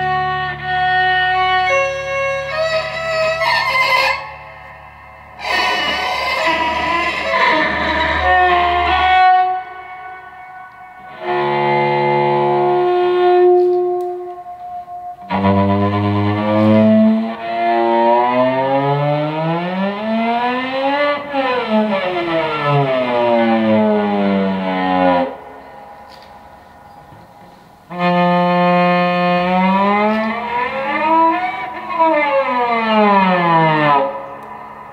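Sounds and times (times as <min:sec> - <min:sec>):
bowed electric cello: 0:00.0 - 0:34.9.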